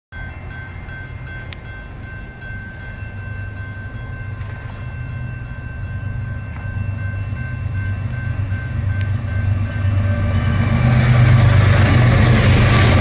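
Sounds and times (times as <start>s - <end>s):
crossing warning bell ringing: 0.1s - 13.0s
diesel locomotive rumble: 0.2s - 13.0s.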